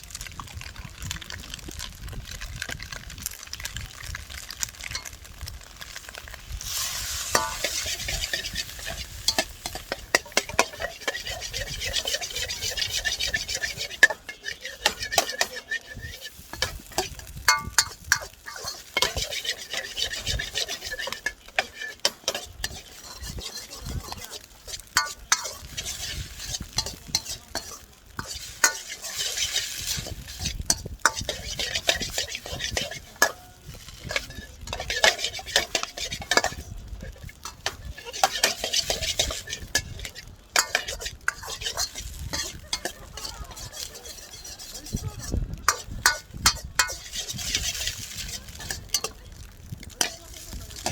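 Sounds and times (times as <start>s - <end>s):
food sizzling: 0.0s - 50.9s
utensil scraping a wok: 4.0s - 50.9s.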